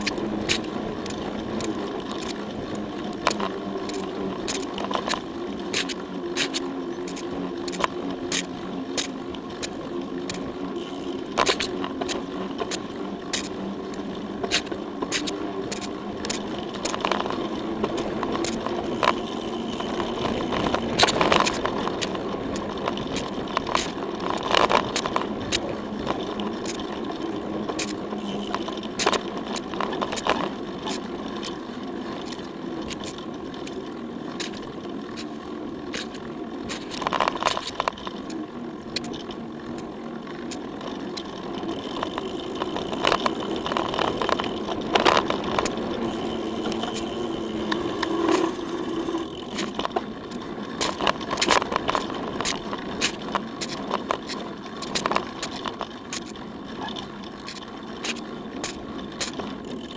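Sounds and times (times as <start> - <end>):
bike knocking and rattling: 0.0 - 59.9
tyre and wind noise: 0.0 - 59.9.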